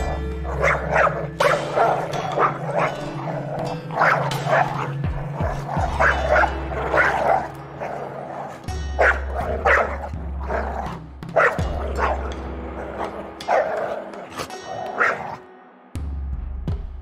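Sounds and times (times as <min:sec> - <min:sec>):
steady low drone: 0:00.0 - 0:14.7
wild dogs yelping: 0:00.0 - 0:15.4.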